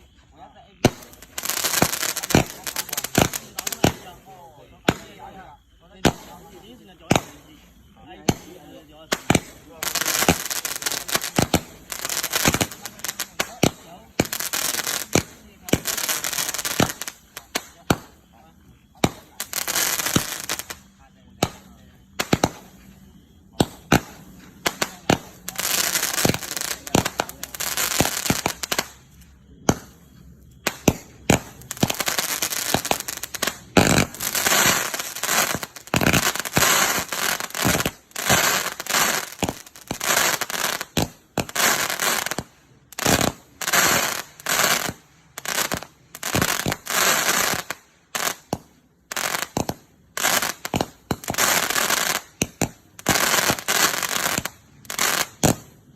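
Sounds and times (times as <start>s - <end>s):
firework bangs: 0.0s - 55.9s.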